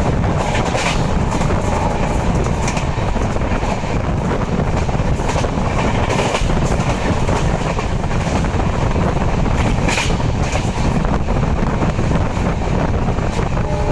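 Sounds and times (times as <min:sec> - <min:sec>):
train rumbling on rails: 0:00.0 - 0:13.9.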